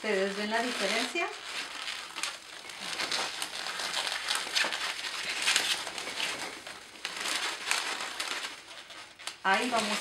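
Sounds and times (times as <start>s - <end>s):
balloons squeaking and rubbing: 0.0s - 10.0s.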